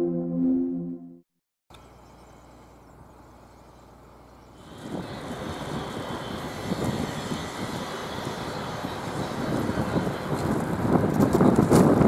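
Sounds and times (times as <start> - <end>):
electric locomotive rumble and hiss: 1.8 - 12.0.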